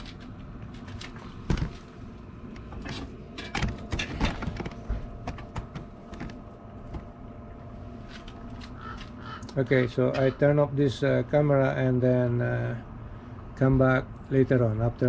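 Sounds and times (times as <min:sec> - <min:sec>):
submersible pump humming: 0:00.0 - 0:15.0.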